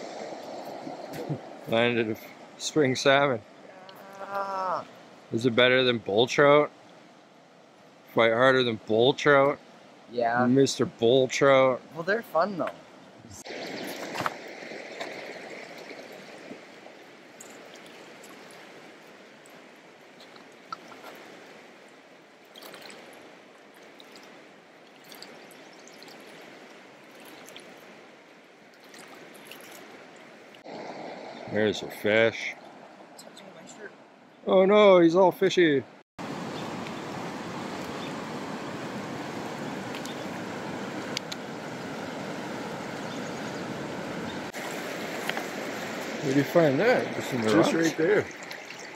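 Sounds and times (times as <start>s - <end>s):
water rushing over rocks: 0.0s - 6.8s, 13.3s - 34.0s, 36.2s - 48.9s.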